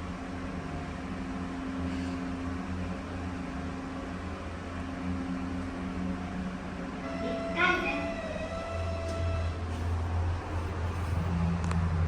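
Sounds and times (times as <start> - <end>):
elevator low drone: 0.0 - 12.0.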